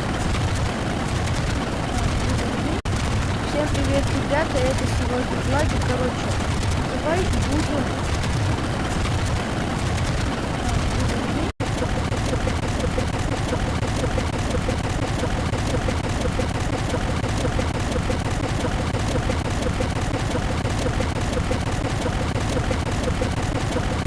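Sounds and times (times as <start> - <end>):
dense overlapping sound effects: 0.0 - 24.0
fast pulsing: 0.0 - 24.0.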